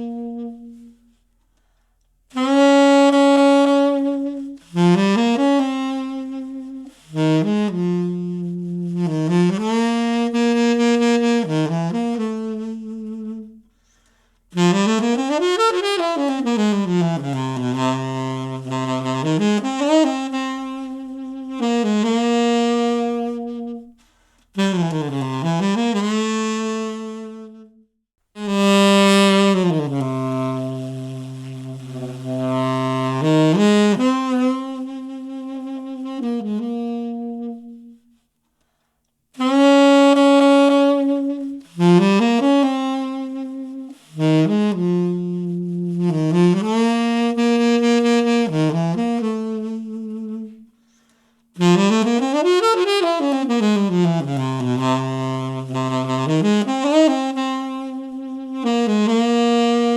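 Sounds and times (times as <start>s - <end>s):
solo saxophone music: 0.0s - 59.9s.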